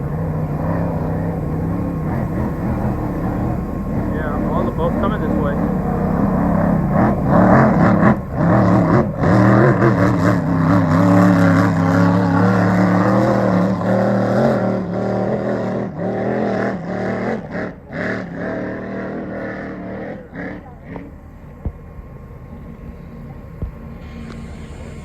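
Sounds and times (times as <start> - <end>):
powerboat engine running: 0.0 - 16.3, 16.9 - 25.0.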